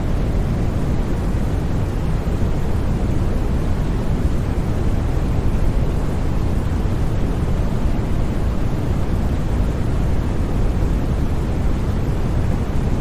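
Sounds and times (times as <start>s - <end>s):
white noise hiss: 0.0s - 13.0s.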